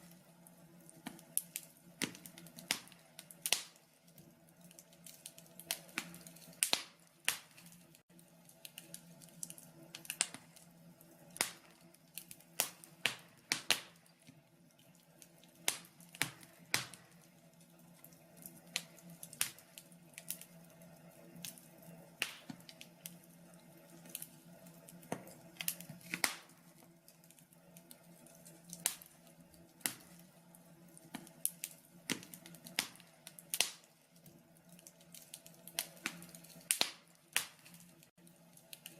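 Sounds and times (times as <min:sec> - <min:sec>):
faint steady hum: 0:00.0 - 0:38.9
logs crackling and popping: 0:00.0 - 0:38.9.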